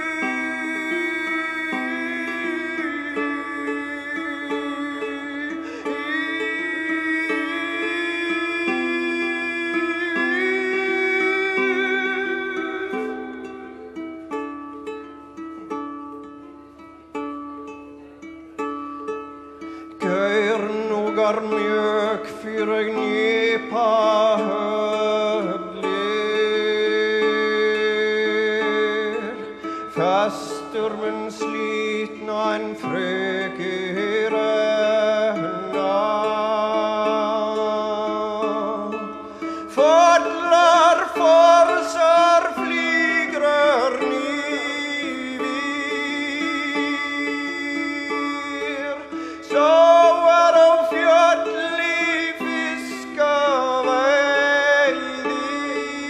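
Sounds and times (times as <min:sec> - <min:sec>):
man singing ornamented notes: 0:00.0 - 0:17.4, 0:18.0 - 0:56.0
plucked string instrument: 0:00.0 - 0:56.0.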